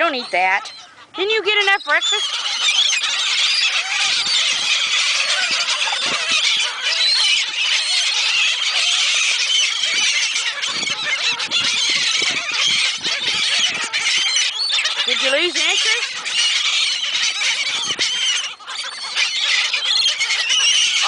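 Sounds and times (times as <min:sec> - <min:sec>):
seagulls calling: 0:00.0 - 0:21.0.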